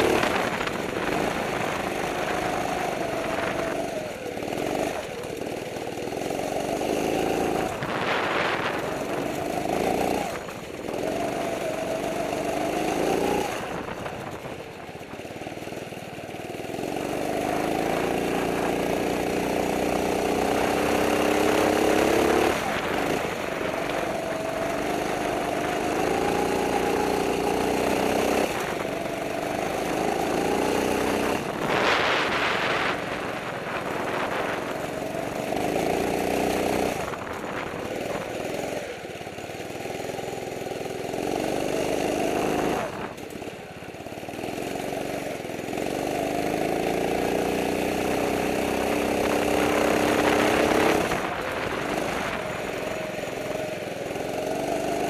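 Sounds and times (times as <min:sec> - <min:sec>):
kart engine revving: 0:00.0 - 0:55.0.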